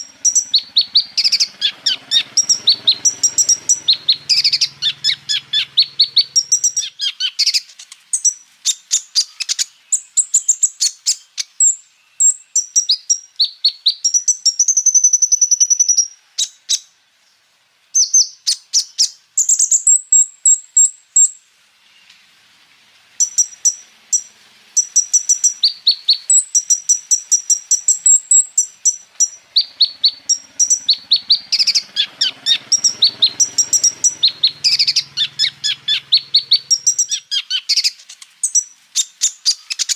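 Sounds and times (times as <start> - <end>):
bird chirping and trilling: 0.0 - 17.0, 18.0 - 22.1, 23.2 - 39.9.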